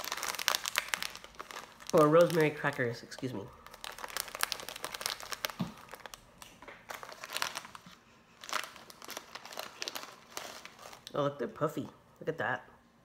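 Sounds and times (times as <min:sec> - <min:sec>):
snack wrapper crinkling: 0:00.0 - 0:11.2.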